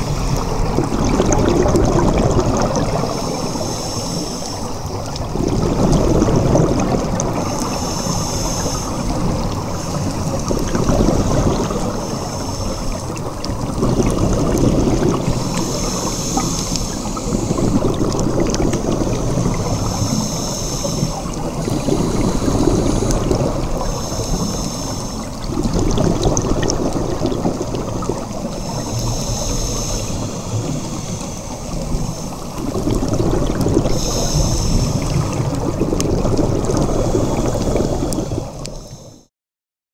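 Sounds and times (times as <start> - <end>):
bubbling exhale: 0.0 - 39.3
regulator hissing inhale: 2.7 - 5.3, 7.0 - 25.6, 26.9 - 39.3.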